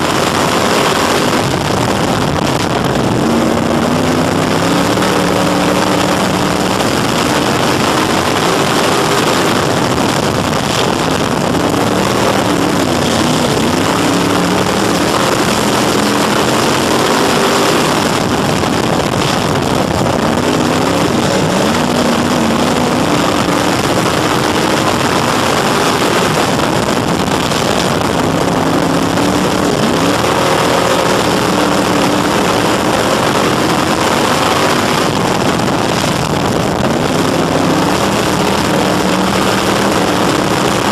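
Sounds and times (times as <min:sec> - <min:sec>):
race car engine at speed: 0:00.0 - 0:40.9
steady rush of noise: 0:00.0 - 0:40.9.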